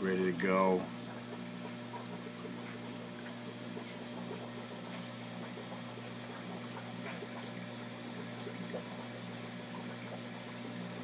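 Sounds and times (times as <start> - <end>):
filter pump humming: 0.0 - 11.0
water trickling: 0.0 - 11.0.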